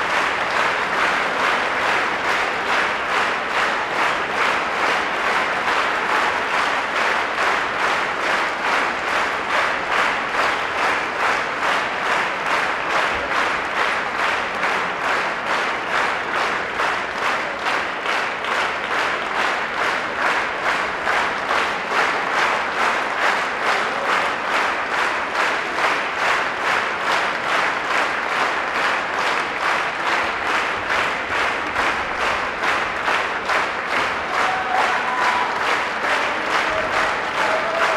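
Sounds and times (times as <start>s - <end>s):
audience clapping in unison: 0.0s - 37.9s.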